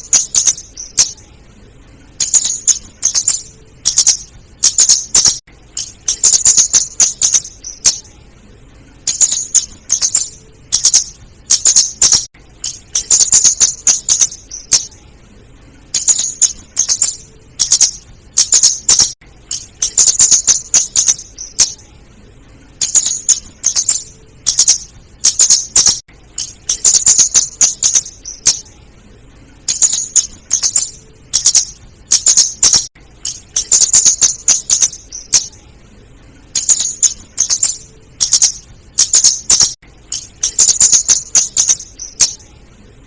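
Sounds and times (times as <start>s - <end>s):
bird calling with sharp ticking notes: 0.0s - 1.2s, 2.2s - 8.1s, 9.0s - 15.0s, 15.9s - 21.8s, 22.8s - 28.6s, 29.7s - 35.6s, 36.5s - 42.5s.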